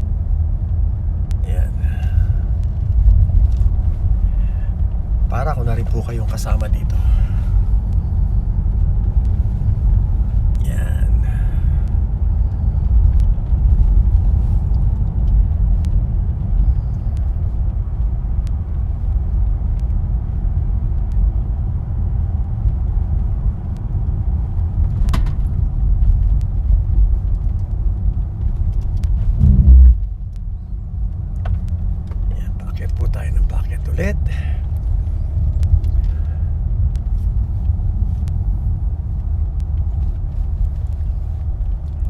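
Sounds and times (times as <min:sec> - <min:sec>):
car interior engine and road noise: 0:00.0 - 0:42.0.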